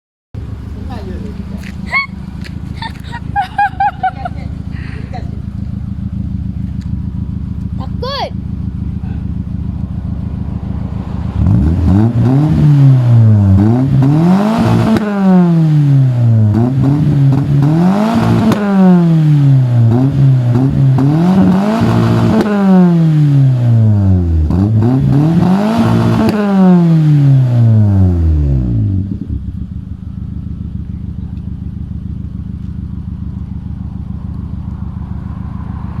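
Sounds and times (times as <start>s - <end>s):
engine revving and idling: 0.4s - 36.0s.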